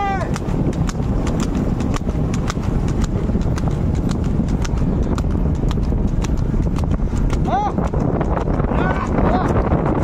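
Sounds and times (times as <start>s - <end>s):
hoofbeats on asphalt: 0.0s - 10.0s
low rumble: 0.0s - 10.0s.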